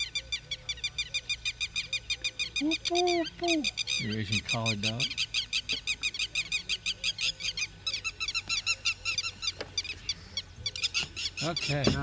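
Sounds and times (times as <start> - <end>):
bird calling repeated nasal notes: 0.0 - 12.0.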